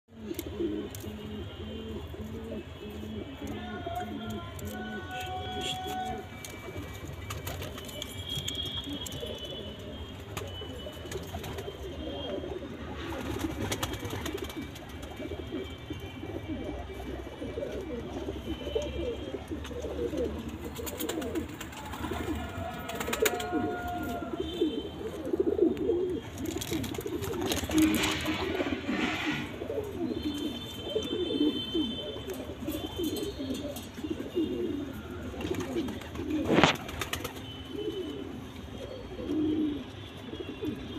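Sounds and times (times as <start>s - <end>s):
pigeons cooing: 0.1s - 40.9s.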